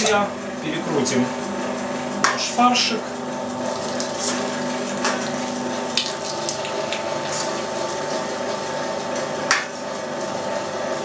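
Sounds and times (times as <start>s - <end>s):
meat grinder motor humming: 0.0s - 11.0s.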